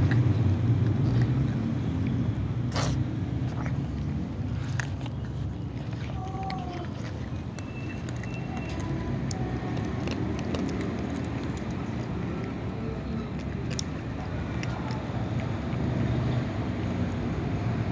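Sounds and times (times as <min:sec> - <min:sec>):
cats crunching dry kibble: 0:00.0 - 0:17.3
low engine-like rumble: 0:00.0 - 0:17.9.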